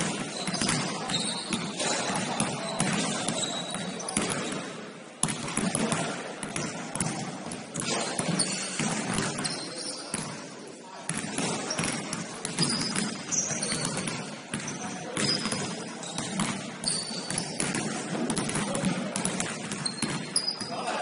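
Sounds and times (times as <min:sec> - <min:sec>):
basketball bouncing on gym floor: 0:00.0 - 0:10.4, 0:11.1 - 0:20.7.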